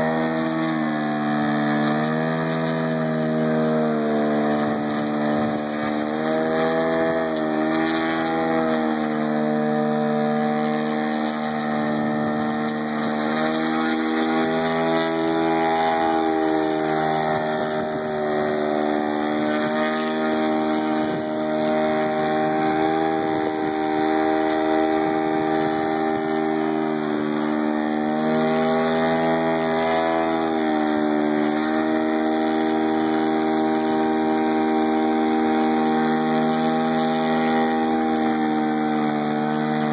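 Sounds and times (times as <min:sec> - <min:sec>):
model plane engine and propeller: 0:00.0 - 0:39.9.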